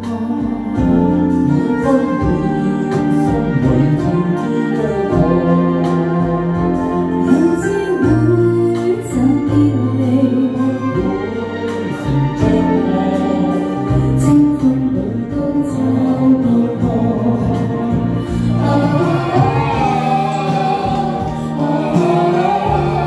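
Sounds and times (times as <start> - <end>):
backing track music: 0.0 - 23.0
woman singing a ballad: 0.0 - 23.0.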